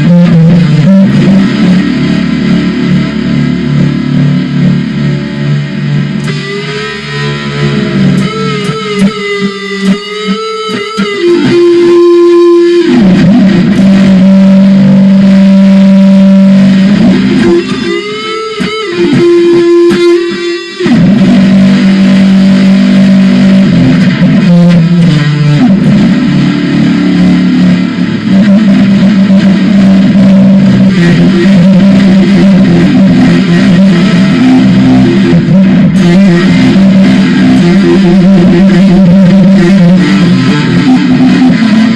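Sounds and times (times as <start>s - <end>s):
electric guitar bending notes: 0.0s - 41.9s
heavy low tone: 0.0s - 41.9s.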